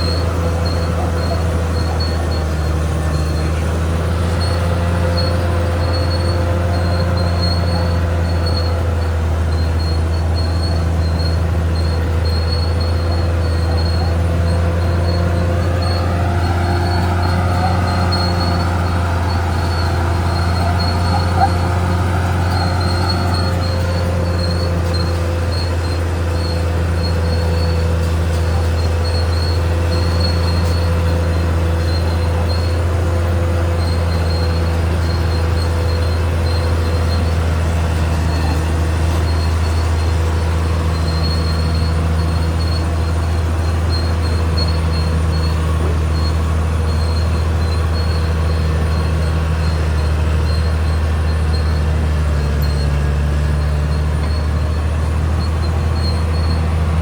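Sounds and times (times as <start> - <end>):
bulldozer diesel engine running: 0.0 - 57.0
rough mechanical noise: 0.0 - 57.0
steel tracks squealing: 0.0 - 57.0.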